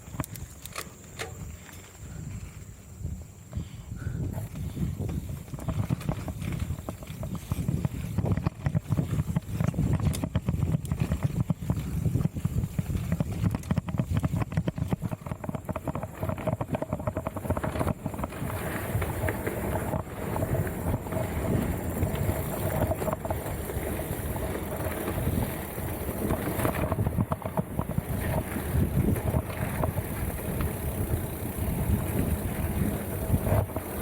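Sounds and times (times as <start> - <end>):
bike clicks and clatters: 0.0 - 34.0
bike rolling rumble: 0.0 - 34.0
wind buffeting microphone: 1.4 - 34.0.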